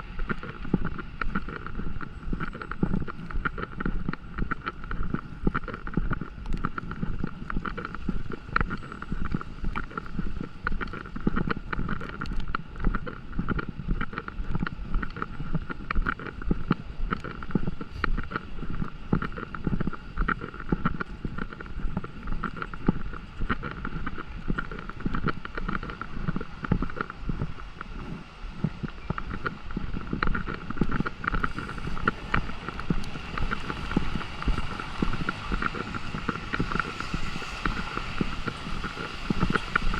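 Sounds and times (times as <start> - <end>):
rain ticks: 0.0 - 39.9
wind buffeting microphone: 0.0 - 39.9.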